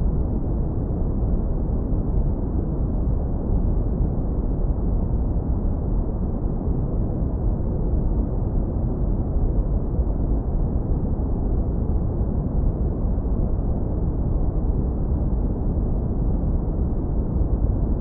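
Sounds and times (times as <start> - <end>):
low rumbling brown noise: 0.0 - 18.0.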